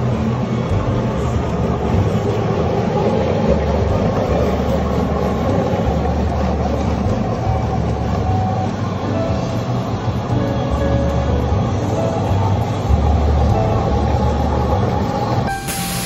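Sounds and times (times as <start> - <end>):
floor machine motor hum: 0.0 - 16.0.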